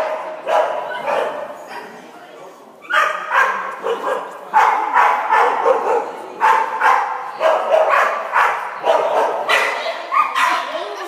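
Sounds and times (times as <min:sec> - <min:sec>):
small dog barking: 0:00.0 - 0:01.6, 0:02.9 - 0:10.7.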